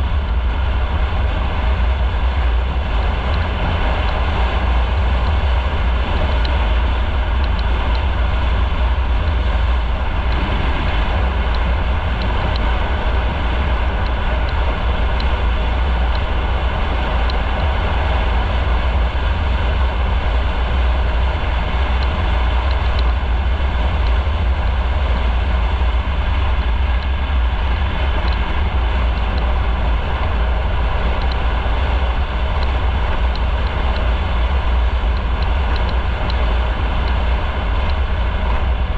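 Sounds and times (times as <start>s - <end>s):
road noise: 0.0s - 38.9s
wind rush: 0.0s - 38.9s.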